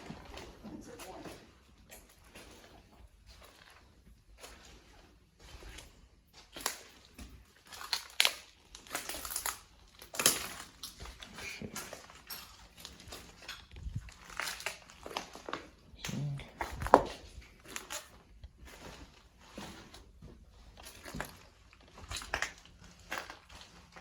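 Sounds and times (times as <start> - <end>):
footsteps crunching over debris: 0.0 - 24.0.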